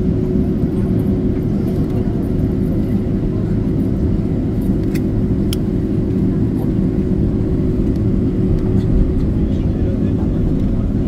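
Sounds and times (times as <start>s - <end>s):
airliner cabin rumble and hum: 0.0s - 11.0s.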